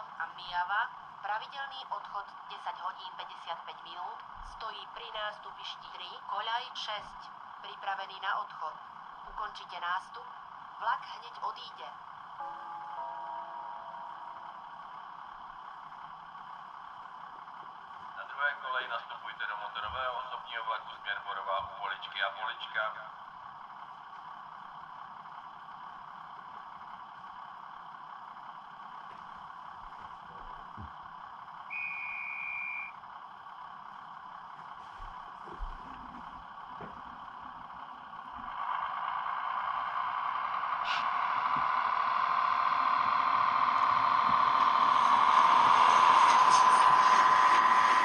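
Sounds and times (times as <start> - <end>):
model train running on track: 0.0 - 34.7, 37.1 - 48.0
faint steady hum: 0.0 - 48.0.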